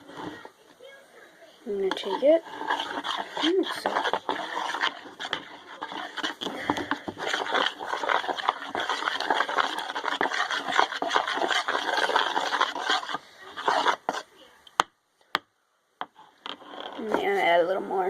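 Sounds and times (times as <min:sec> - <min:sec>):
spoon stirring thick mixture: 0:00.0 - 0:00.8, 0:01.6 - 0:15.4, 0:16.0 - 0:17.9.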